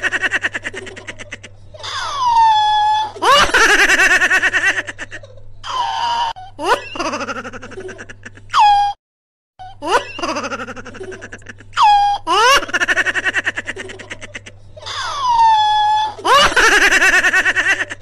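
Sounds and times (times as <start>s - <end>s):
person laughing high-pitched: 0.0s - 9.0s, 9.7s - 18.0s.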